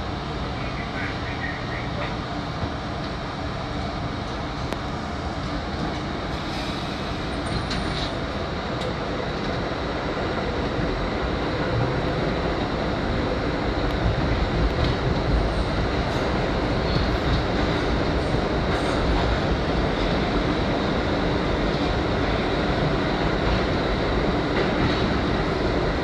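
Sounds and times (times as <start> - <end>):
subway train rumbling and accelerating: 0.0 - 26.0.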